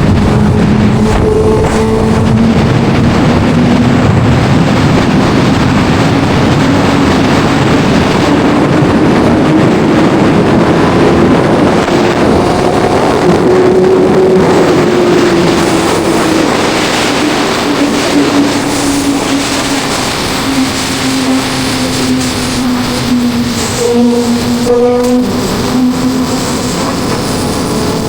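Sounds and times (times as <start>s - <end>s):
wind rush on microphone: 0.0s - 28.0s.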